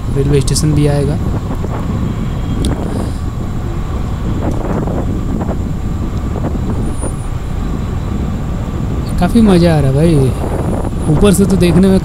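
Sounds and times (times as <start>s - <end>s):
motorcycle engine: 0.0s - 11.2s
wind on microphone: 0.0s - 12.0s.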